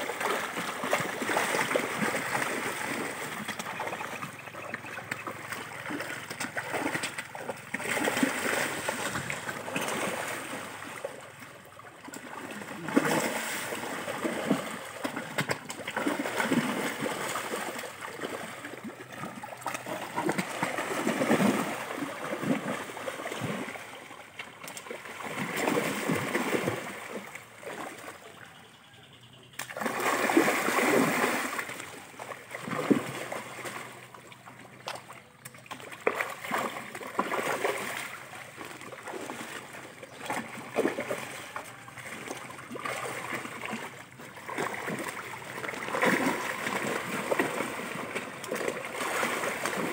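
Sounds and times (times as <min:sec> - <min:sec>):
fish splashing in water: 0:00.0 - 0:49.9.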